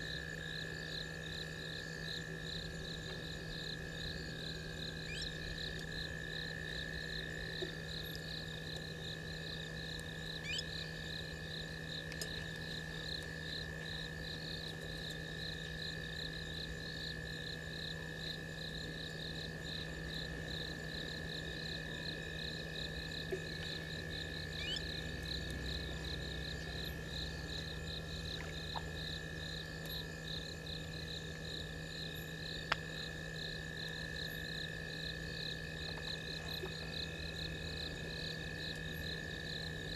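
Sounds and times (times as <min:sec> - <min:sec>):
insects trilling: 0:00.0 - 0:39.9
low steady hum: 0:00.0 - 0:39.9
pulsing insect chirp: 0:00.0 - 0:39.9.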